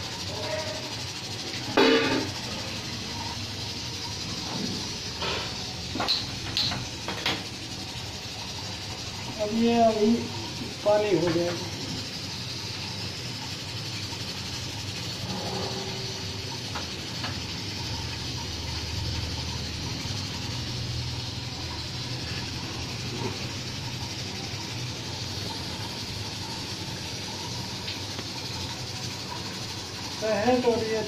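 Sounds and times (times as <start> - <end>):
gas stove burner hissing: 0.0 - 31.0.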